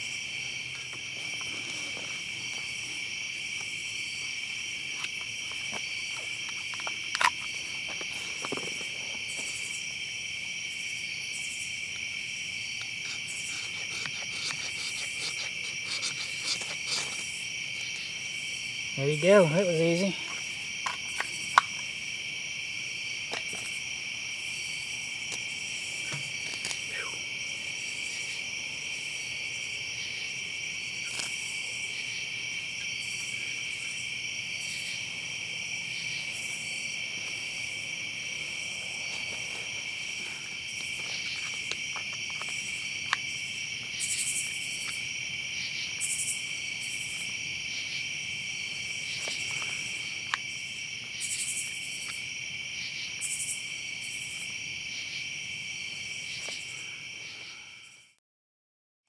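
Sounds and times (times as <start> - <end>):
crickets chirping: 0.0 - 58.2.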